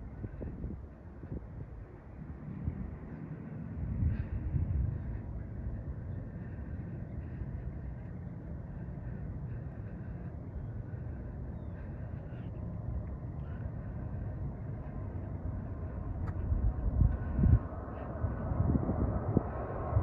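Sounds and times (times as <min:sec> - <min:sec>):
distant jet engines rumbling: 0:00.0 - 0:20.0.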